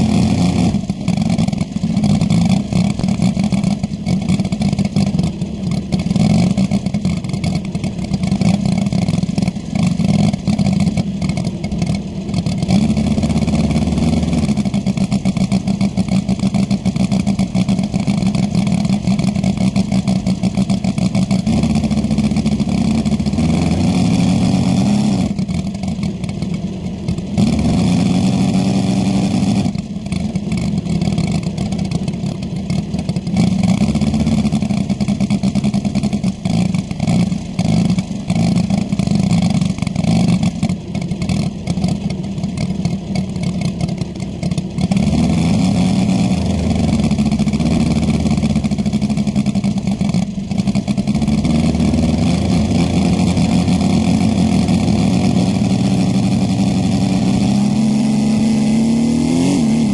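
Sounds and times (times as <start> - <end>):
model plane engine running: 0.0 - 58.6.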